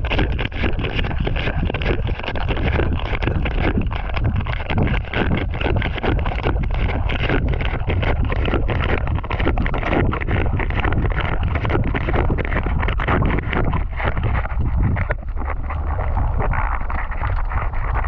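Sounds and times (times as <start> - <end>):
crackling underwater clicks: 0.0 - 18.0
muffled underwater rushing: 0.0 - 18.0.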